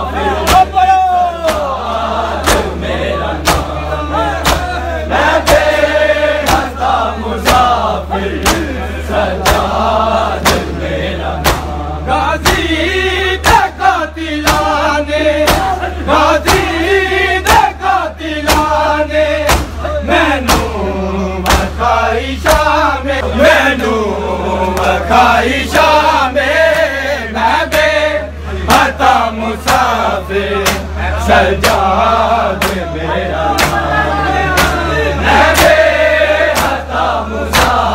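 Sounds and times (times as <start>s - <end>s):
men chanting in unison: 0.0s - 37.9s
rhythmic chest-beating slaps: 0.2s - 37.9s.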